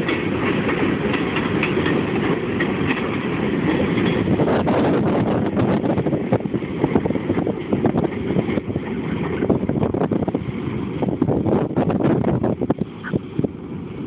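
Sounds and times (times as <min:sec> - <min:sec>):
freight train cars rumbling: 0:00.0 - 0:14.0
wind buffeting microphone: 0:00.0 - 0:14.0.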